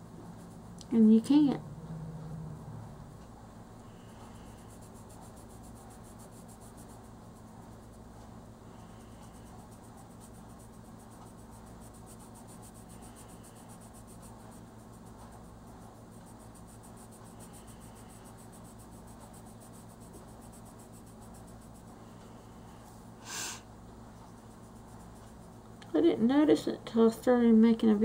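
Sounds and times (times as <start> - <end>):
colored pencil scratching on paper: 0.0 - 1.5, 3.8 - 23.0, 24.0 - 26.3.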